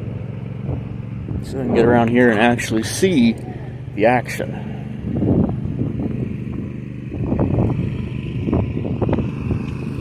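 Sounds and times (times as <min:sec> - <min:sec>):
riding mower engine running: 0:00.0 - 0:10.0.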